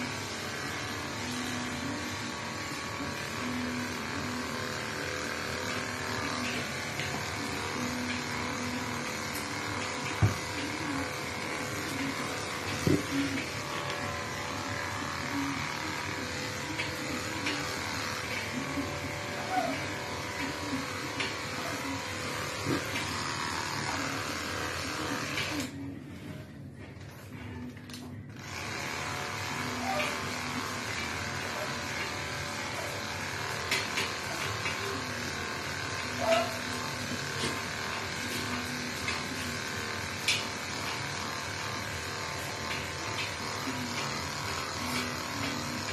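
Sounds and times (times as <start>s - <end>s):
small electric motor hum: 0.0s - 26.4s, 28.3s - 45.9s
grooming machine whirring: 0.0s - 45.9s.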